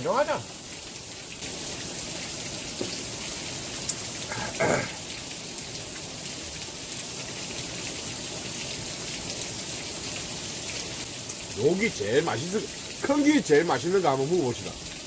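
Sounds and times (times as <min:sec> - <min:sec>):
water pattering from a roof: 0:00.0 - 0:15.0.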